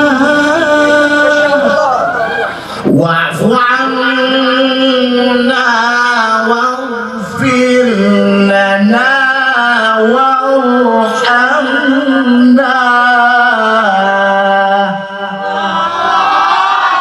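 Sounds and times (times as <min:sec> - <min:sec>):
man reciting over loudspeakers: 0:00.0 - 0:15.9.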